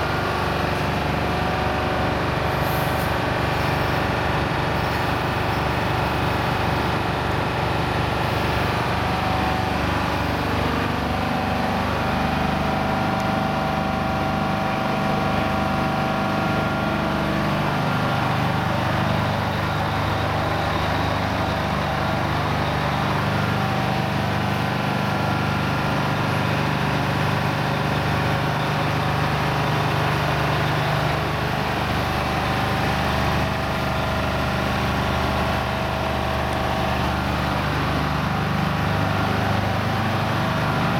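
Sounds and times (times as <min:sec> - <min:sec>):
truck diesel engine at low revs: 0:00.0 - 0:40.9.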